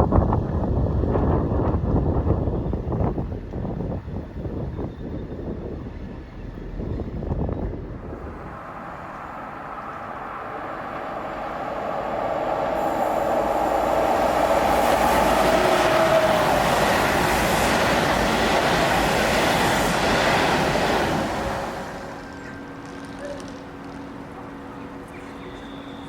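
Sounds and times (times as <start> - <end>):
high-speed electric train passing: 0.0 - 26.0.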